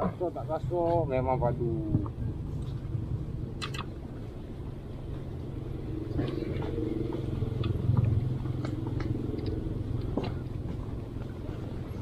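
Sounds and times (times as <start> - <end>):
motor engine humming: 0.5 - 12.0.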